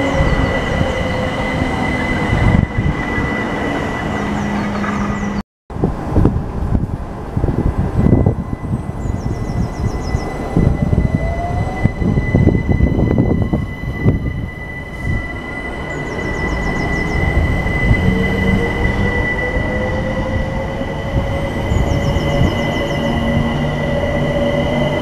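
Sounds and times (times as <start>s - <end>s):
steady high tone: 0.0s - 5.4s, 7.8s - 25.0s
wheels rumbling on rails: 0.0s - 25.0s.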